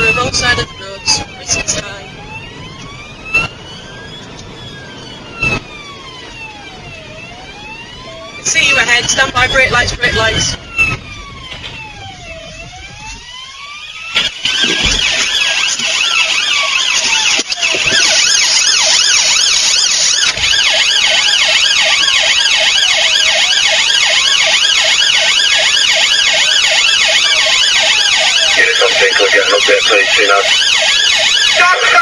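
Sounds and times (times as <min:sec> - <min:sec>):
siren fast yelp: 0:00.0 - 0:32.0
siren slow wail: 0:00.0 - 0:32.0.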